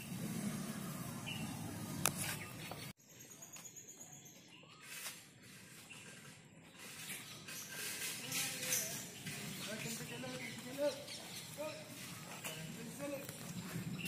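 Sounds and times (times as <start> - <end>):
outdoor background noise: 0.0 - 14.0
faint bird chirps: 1.2 - 14.0.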